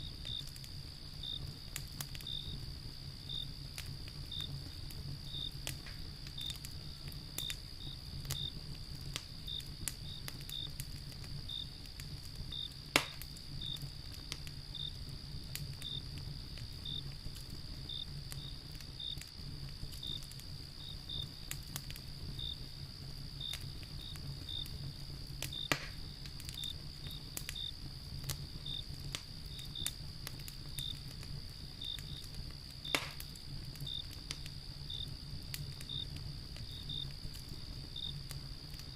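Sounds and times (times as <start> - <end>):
insects chirping: 0.0 - 38.9
loud fire pops: 0.0 - 38.9
wood fire crackling: 0.0 - 38.9.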